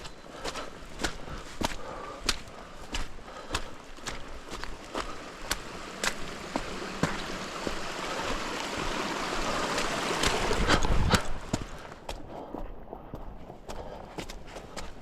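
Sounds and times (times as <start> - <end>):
rushing stream water: 0.0 - 12.3
footsteps on wet ground: 0.0 - 15.0.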